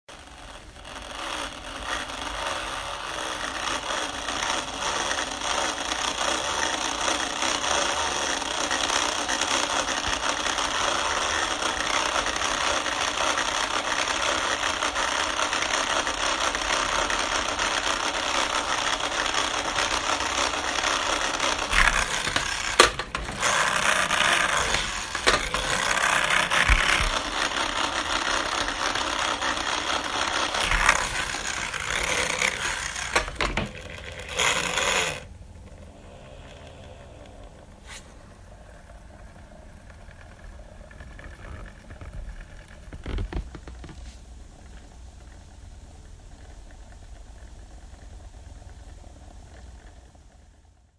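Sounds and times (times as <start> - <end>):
laptop fan rattling and grinding: 0.1 - 50.9.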